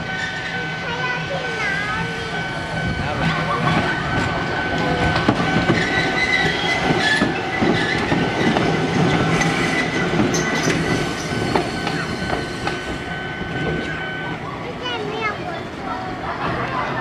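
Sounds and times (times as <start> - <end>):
tram wheels rumbling over rail joints: 0.0 - 17.0
wheels squealing on rails: 0.0 - 17.0.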